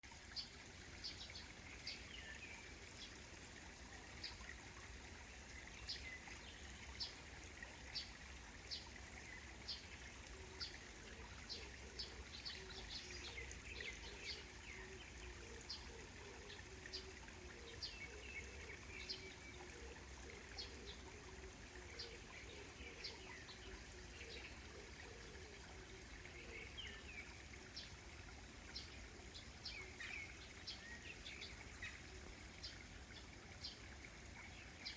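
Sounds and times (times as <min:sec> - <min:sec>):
small stream trickling: 0:00.0 - 0:34.9.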